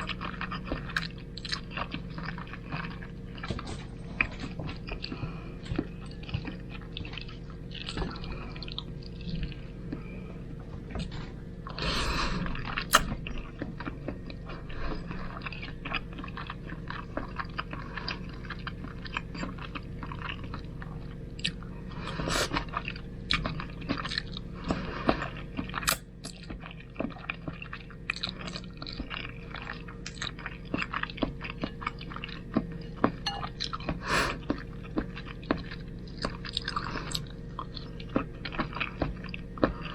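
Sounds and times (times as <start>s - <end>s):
person chewing spaghetti: 0.0s - 39.9s.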